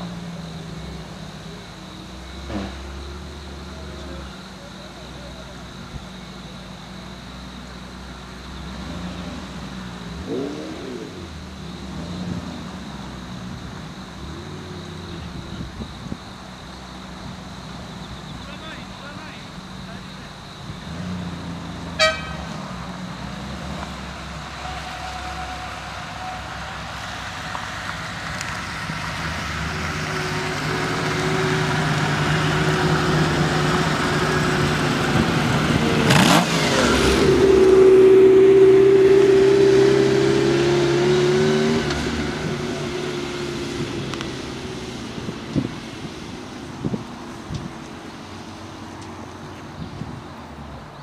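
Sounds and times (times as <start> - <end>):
car engine driving by: 0.0 - 51.0.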